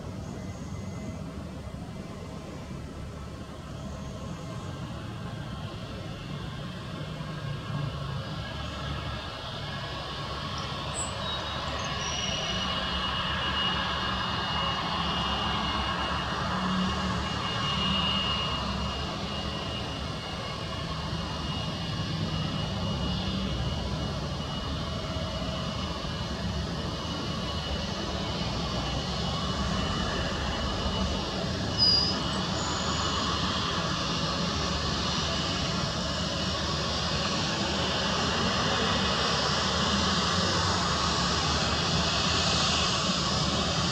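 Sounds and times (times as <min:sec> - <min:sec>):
jet engines rumbling with whine: 0:00.0 - 0:43.9.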